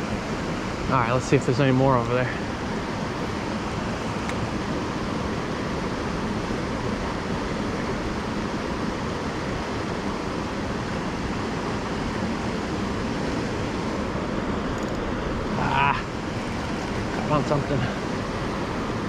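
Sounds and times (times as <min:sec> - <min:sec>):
creek water rushing over spillway: 0:00.0 - 0:14.6, 0:15.3 - 0:19.0.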